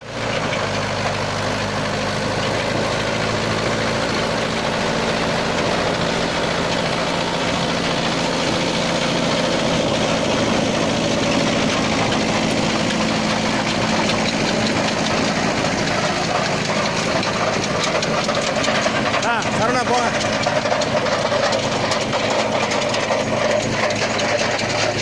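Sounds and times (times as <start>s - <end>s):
spading machine working soil: 0.0s - 25.0s
tractor diesel engine running: 0.0s - 25.0s.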